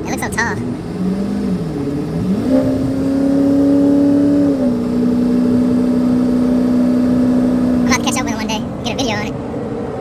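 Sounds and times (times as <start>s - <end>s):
diesel pickup droning: 0.0s - 10.0s.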